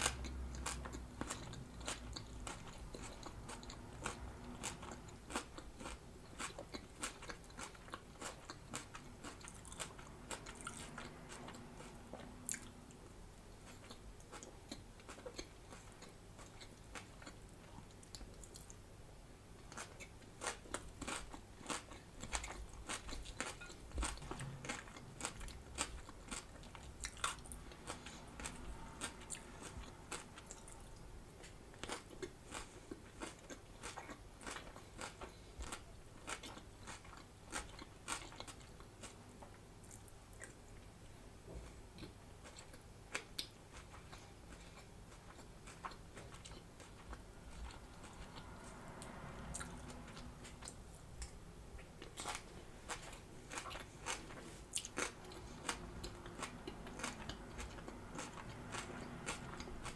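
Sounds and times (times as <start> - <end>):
crunching and chewing raw salad: 0.0 - 18.8, 19.6 - 59.9.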